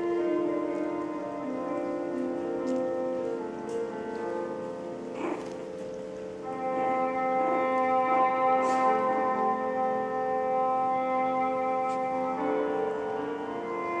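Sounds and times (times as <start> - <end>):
held instrumental chords: 0.0 - 14.0.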